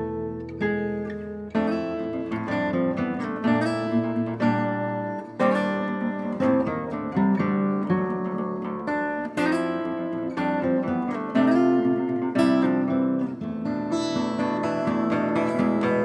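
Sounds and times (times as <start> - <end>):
acoustic guitar strummed and plucked: 0.0 - 16.0.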